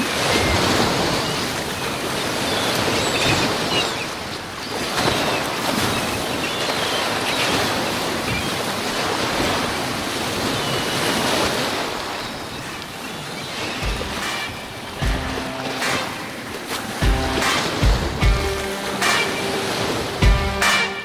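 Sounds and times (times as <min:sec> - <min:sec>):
lake waves breaking: 0:00.0 - 0:21.0
wind: 0:00.0 - 0:21.0.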